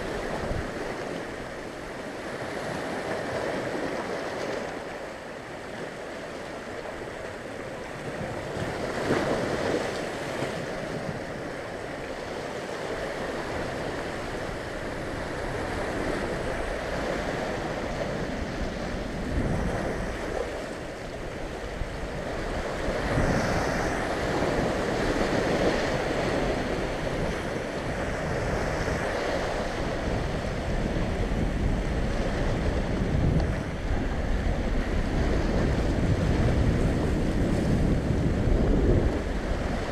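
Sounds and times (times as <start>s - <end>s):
sea waves breaking on rocks: 0.0s - 39.9s
wind buffeting microphone: 0.0s - 39.9s.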